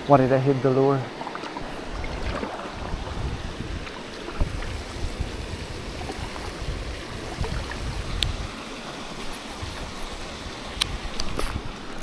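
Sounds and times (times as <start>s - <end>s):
water sounds: 0.0s - 12.0s
wind rumbling on microphone: 1.1s - 12.0s.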